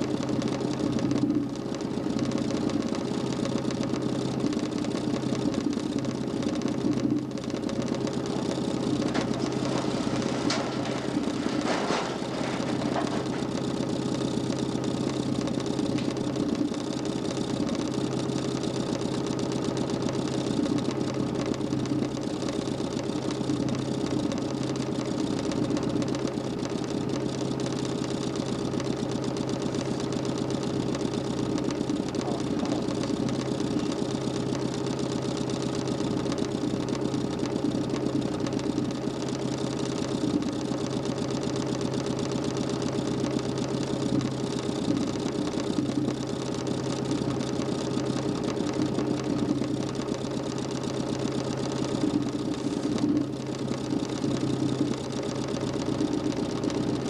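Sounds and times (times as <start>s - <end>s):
electric motor humming: 0.0s - 57.0s.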